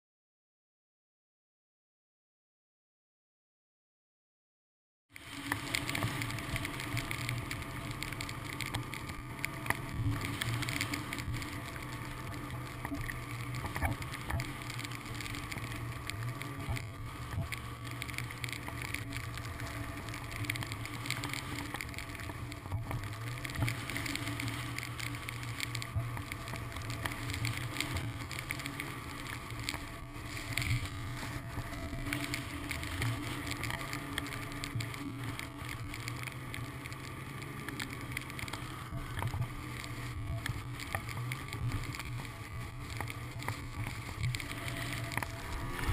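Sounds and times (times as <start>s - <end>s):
small ticks: 5.1s - 45.9s
snowmobile engine running: 5.3s - 45.9s.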